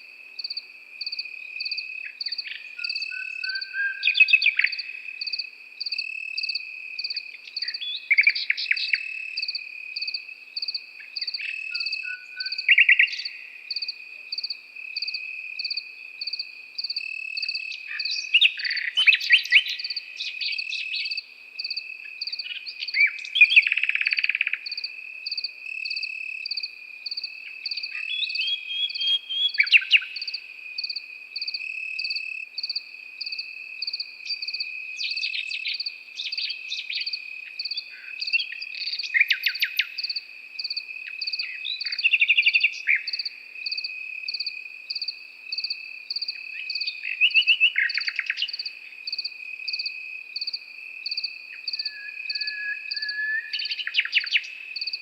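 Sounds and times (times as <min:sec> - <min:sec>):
crickets chirping: 0:00.0 - 0:55.0
nightingale singing: 0:00.0 - 0:55.0.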